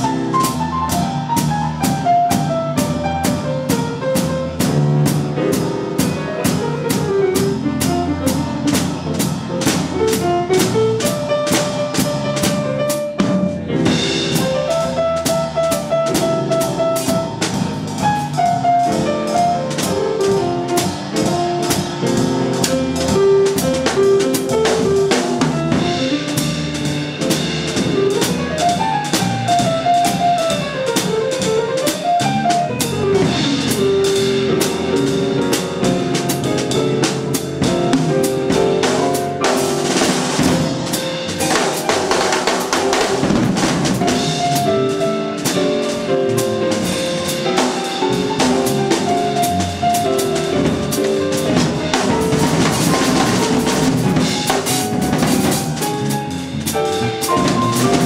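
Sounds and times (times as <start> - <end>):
drum kit playing: 0.0 - 58.0
piano: 0.0 - 58.0.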